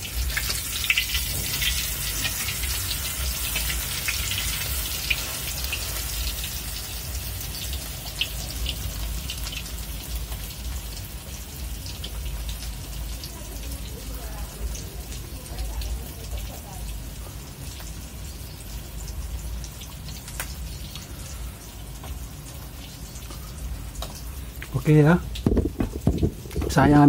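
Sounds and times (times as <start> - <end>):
egg sizzling in oil: 0.0 - 27.0.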